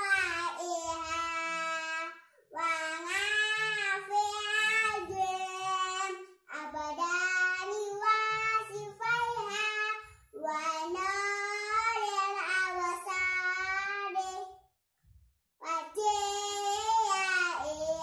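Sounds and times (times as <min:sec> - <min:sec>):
young girl singing: 0:00.0 - 0:14.6, 0:15.6 - 0:18.0.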